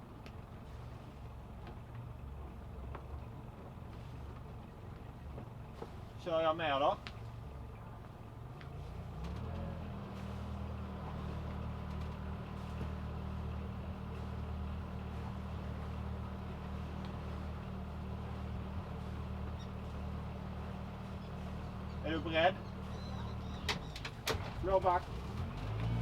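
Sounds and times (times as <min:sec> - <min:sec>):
boat engine idling: 0:00.0 - 0:26.0.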